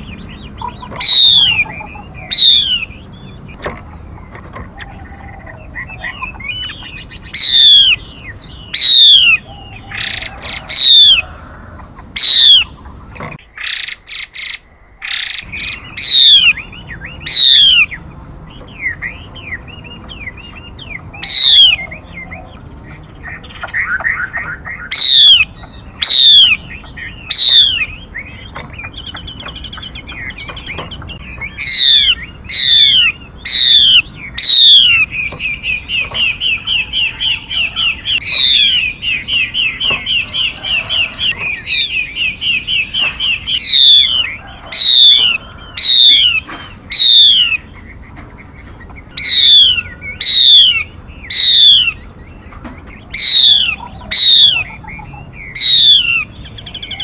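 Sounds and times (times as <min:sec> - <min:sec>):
songbird whistled calls: 0:00.0 - 0:03.6, 0:04.8 - 0:11.5, 0:12.2 - 0:57.0
bird chattering: 0:00.0 - 0:57.0.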